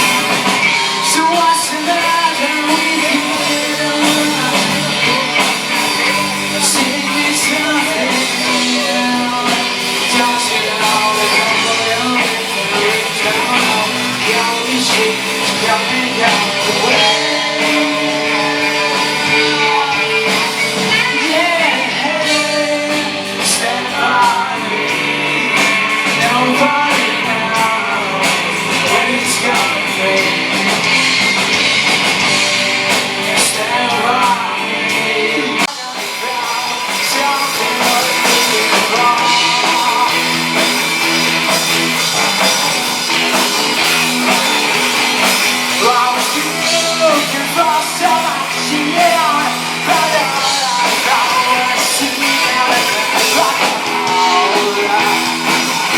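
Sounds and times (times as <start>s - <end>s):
lead singer singing: 0.0s - 55.9s
rock band playing live: 0.0s - 55.9s.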